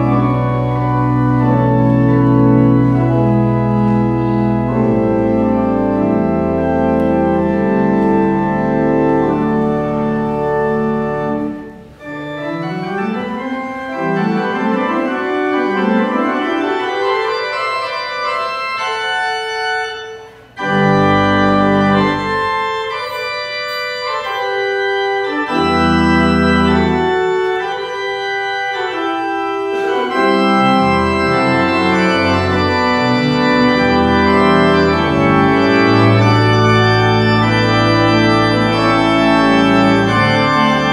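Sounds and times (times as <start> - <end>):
church organ playing: 0.0 - 40.9.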